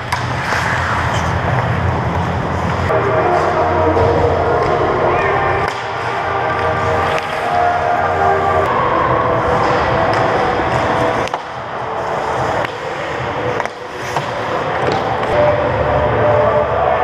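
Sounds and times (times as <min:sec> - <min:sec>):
skate blades scraping on ice: 0:00.0 - 0:08.7, 0:09.4 - 0:15.4.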